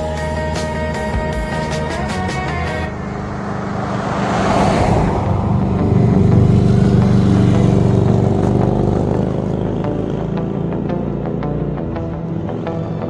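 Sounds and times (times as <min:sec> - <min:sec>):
motorcycle engine running: 0:00.0 - 0:04.3, 0:04.9 - 0:13.0.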